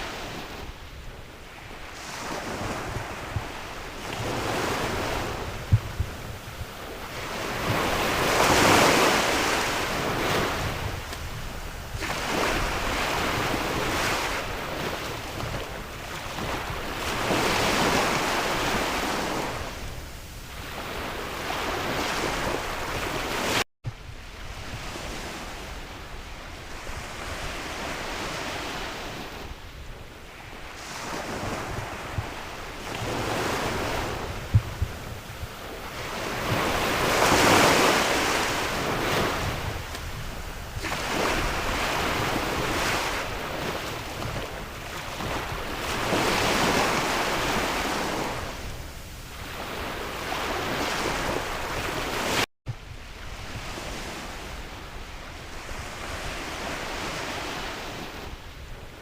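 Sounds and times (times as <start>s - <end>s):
sea waves breaking: 0.0s - 23.6s, 24.2s - 29.6s, 30.2s - 58.5s
wind buffeting microphone: 0.0s - 59.0s.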